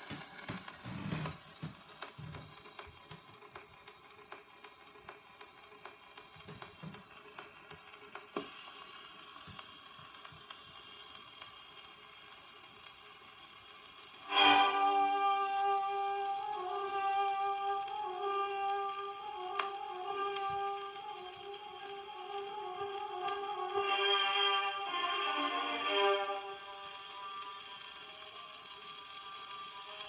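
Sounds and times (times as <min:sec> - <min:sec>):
record surface hiss and crackles: 0:00.0 - 0:30.0.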